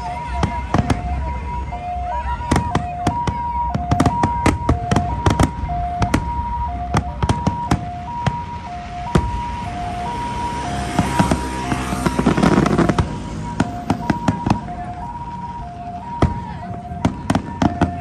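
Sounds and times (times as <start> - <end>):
two-tone ambulance siren: 0.0 - 18.0
fireworks bursting: 0.3 - 1.6, 2.4 - 18.0.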